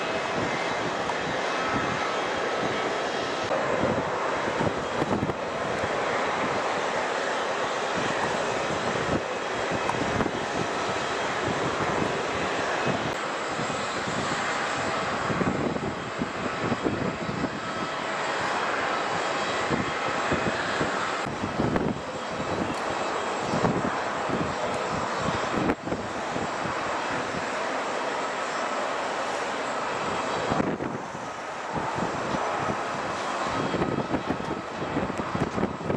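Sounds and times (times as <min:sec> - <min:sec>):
jet engines running: 0:00.0 - 0:35.9
wind buffeting microphone: 0:00.0 - 0:35.9.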